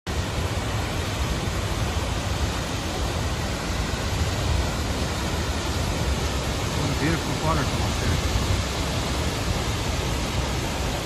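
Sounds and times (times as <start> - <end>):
waterfall rushing into pool: 0.1 - 11.0.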